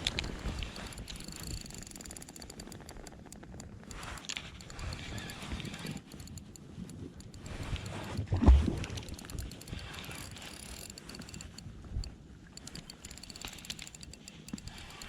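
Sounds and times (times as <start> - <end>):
knocks and clicks in a boat: 0.0 - 15.0.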